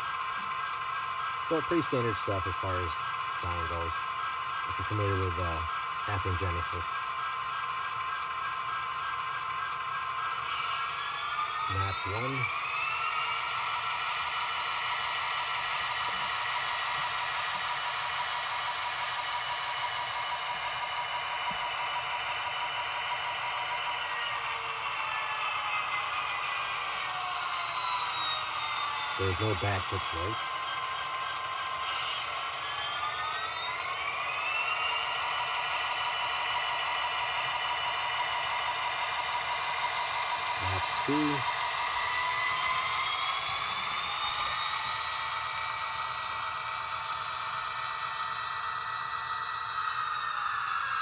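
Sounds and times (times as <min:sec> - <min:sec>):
model train diesel engine sound: 0:00.0 - 0:51.0
rising whine: 0:09.4 - 0:51.0.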